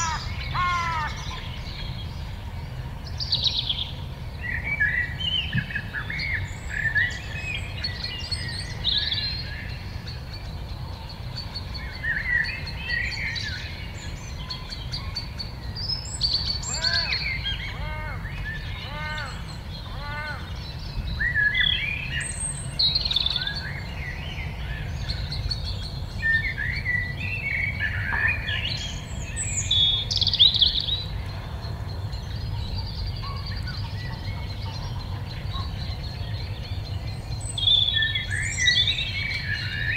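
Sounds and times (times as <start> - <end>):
lower arched bird calls: 0.0 - 2.0, 3.5 - 39.9
songbirds singing and chirping: 0.0 - 39.9.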